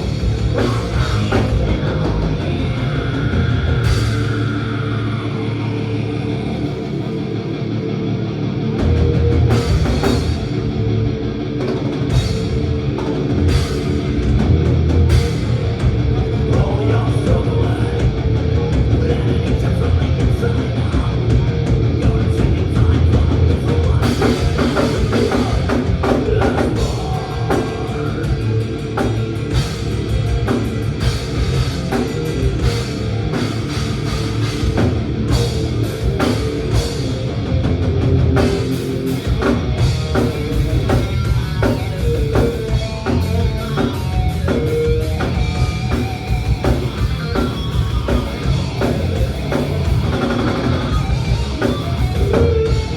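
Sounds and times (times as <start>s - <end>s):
drum kit: 0.0s - 6.1s, 8.8s - 52.9s
bass guitar: 0.0s - 52.9s
distorted electric guitars: 0.0s - 52.9s.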